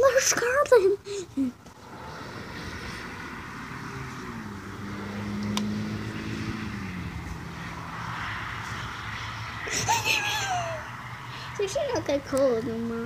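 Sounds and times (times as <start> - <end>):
engine drone: 1.6 - 13.0.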